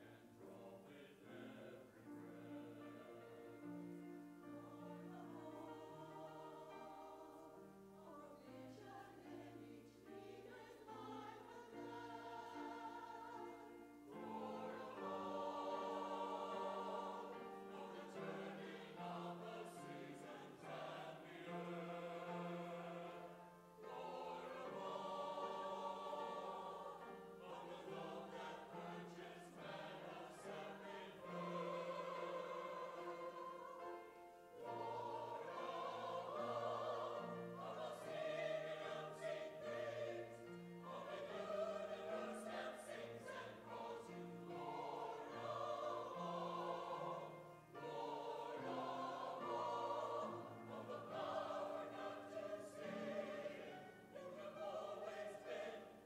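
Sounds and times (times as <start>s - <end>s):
mixed choir singing a hymn: 0.0s - 56.0s.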